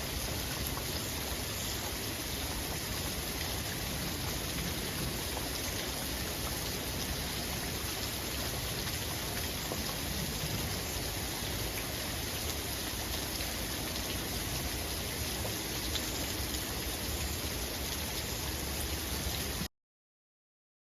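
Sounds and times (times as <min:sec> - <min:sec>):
heavy rain: 0:00.0 - 0:19.7.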